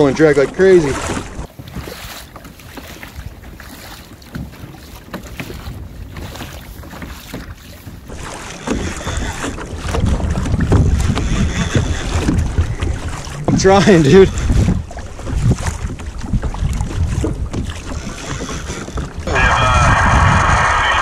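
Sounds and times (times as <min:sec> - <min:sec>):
lapping water: 0:00.0 - 0:21.0
water slapping kayak hull: 0:00.0 - 0:21.0
wind buffeting microphone: 0:00.0 - 0:21.0.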